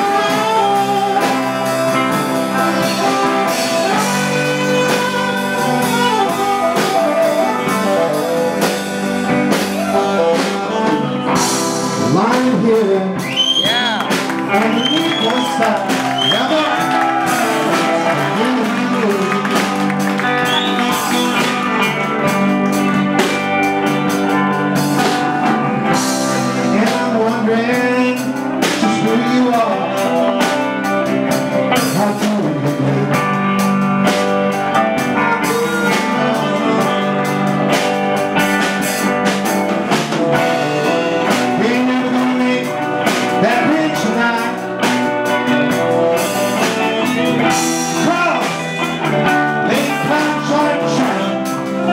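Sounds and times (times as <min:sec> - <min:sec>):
man singing: 0:00.0 - 0:23.8, 0:25.0 - 0:39.2, 0:39.8 - 0:51.9
drum kit: 0:00.0 - 0:51.9
electric guitar: 0:00.0 - 0:51.9.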